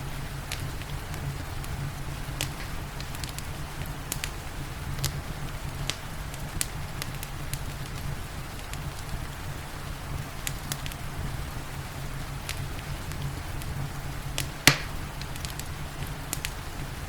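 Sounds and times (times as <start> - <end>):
steady rain: 0.0 - 17.0
wood fire crackling: 0.0 - 17.0
fire pops: 0.2 - 16.9.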